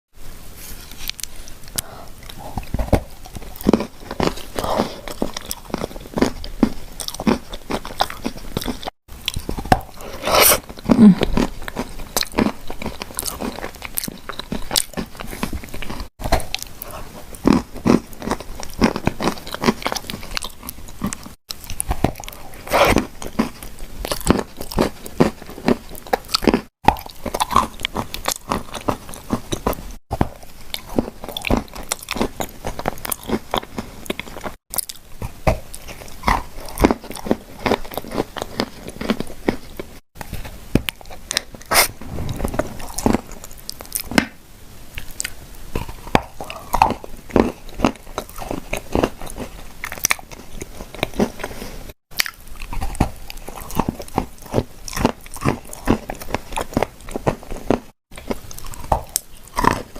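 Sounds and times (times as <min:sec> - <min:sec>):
cookies crunching in chewing: 0:01.0 - 0:59.9.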